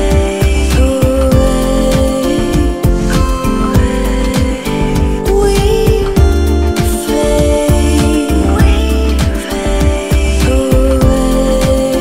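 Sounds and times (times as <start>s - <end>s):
song with steady beat: 0.0s - 12.0s.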